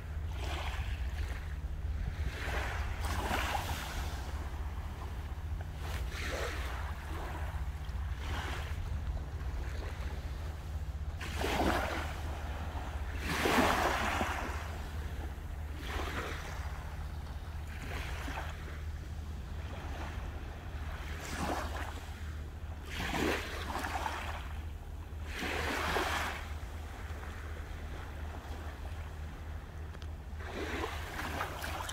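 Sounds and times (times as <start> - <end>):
sea waves breaking on shore: 0.0 - 31.9
steady low rumble: 0.0 - 31.9.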